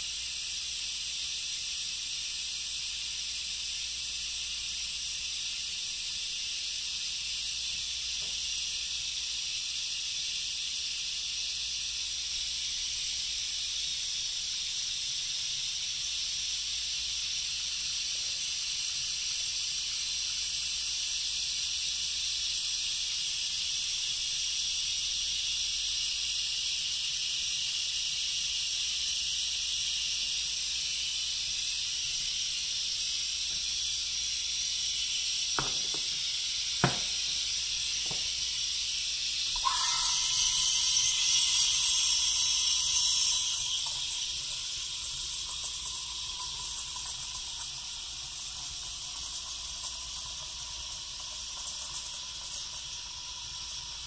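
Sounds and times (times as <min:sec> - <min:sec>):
espresso machine hissing: 0:00.0 - 0:54.0
steam rushing with whistling tone: 0:00.0 - 0:54.0.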